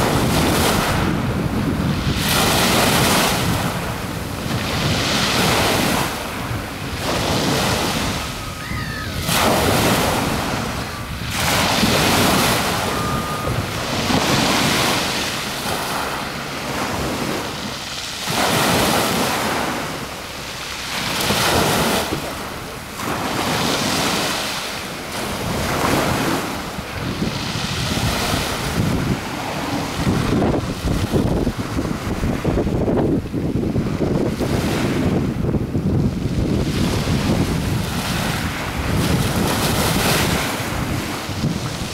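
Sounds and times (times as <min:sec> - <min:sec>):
small waves washing ashore: 0:00.0 - 0:41.9
wind buffeting microphone: 0:00.0 - 0:41.9.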